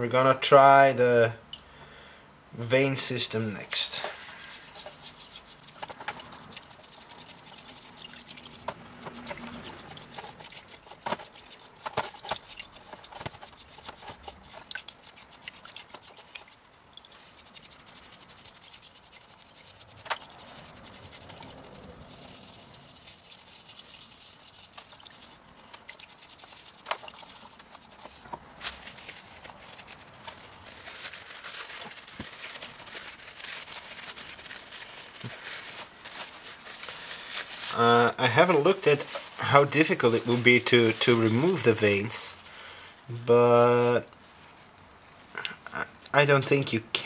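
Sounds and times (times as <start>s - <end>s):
rubbing and swishing in liquid: 3.0s - 42.5s.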